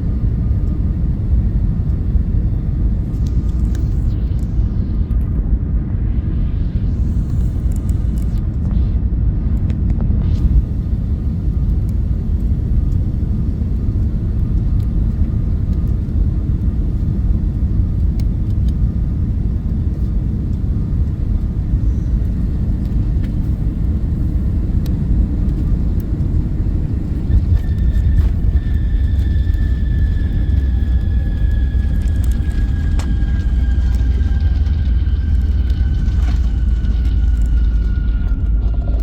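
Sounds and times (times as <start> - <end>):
jet engine high whine: 0.0 - 39.0
jet engine rumble: 0.0 - 39.0.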